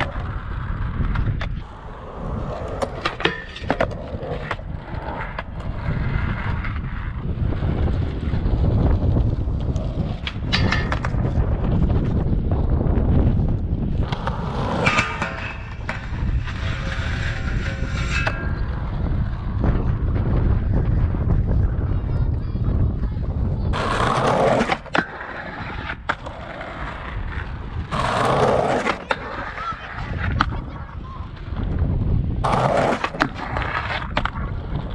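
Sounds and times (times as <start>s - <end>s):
skateboard clacks: 0.0s - 34.9s
skateboard wheels on concrete: 0.0s - 34.9s.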